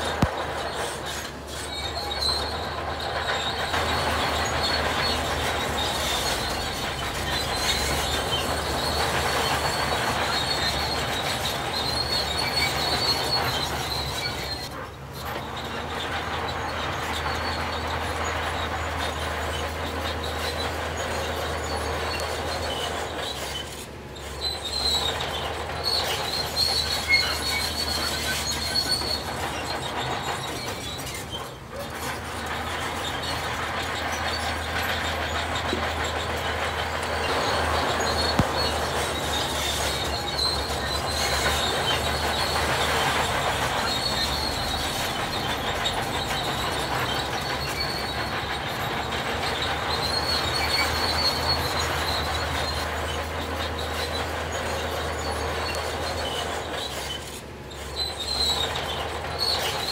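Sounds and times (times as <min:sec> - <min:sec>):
high-pitched metallic squealing: 0:00.0 - 0:59.9
machinery engine drone: 0:00.0 - 0:59.9.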